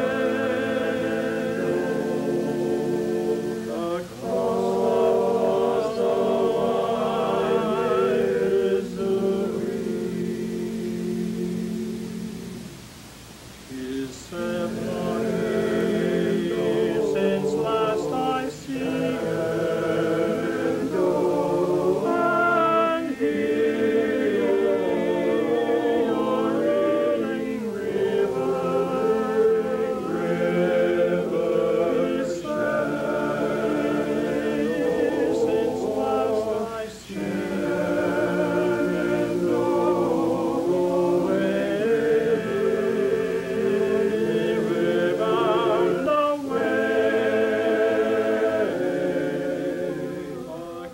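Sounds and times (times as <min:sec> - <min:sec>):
vocal group singing in harmony: 0:00.0 - 0:50.9.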